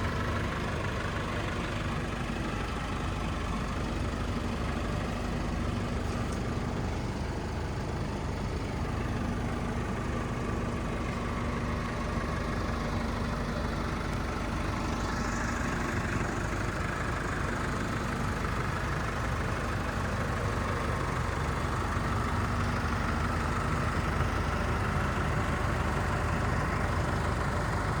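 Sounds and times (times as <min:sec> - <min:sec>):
pickup truck engine rumbling: 0:00.0 - 0:28.0.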